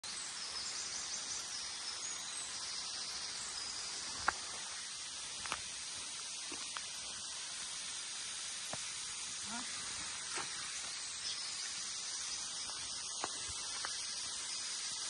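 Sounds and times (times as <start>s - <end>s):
high-pitched forest hiss: 0.0s - 15.0s.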